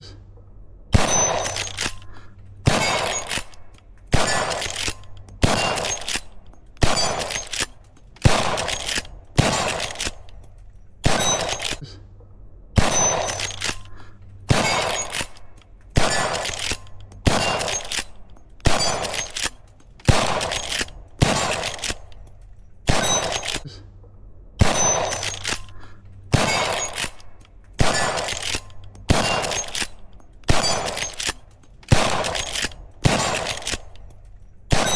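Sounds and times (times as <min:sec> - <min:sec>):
rifle shots ringing: 0:00.9 - 0:11.8, 0:12.8 - 0:23.6, 0:24.6 - 0:34.9.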